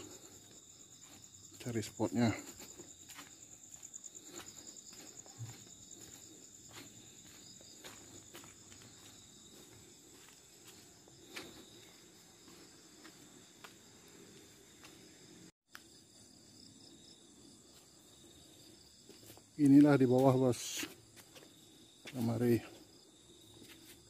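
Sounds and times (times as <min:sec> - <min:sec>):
soft footsteps on path: 0:00.0 - 0:16.5, 0:17.1 - 0:24.0
crickets chirring: 0:00.0 - 0:24.0.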